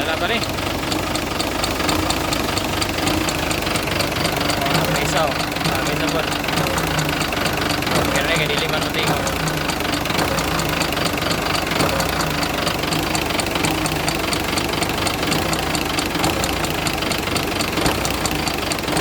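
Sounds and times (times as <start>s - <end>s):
car engine idling: 0.0s - 19.0s
rapid valvetrain ticking: 0.0s - 19.0s.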